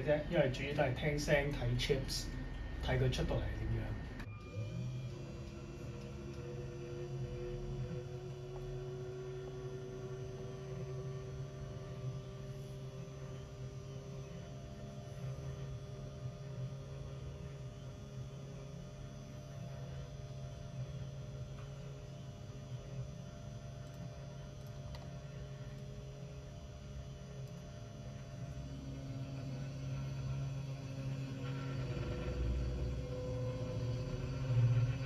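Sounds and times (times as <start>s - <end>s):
router motor hum: 0.0s - 35.0s.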